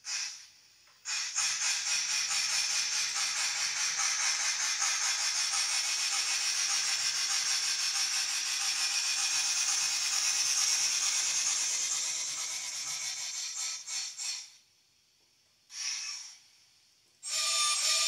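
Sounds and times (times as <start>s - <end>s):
steam locomotive hiss from speaker: 0.0s - 14.6s.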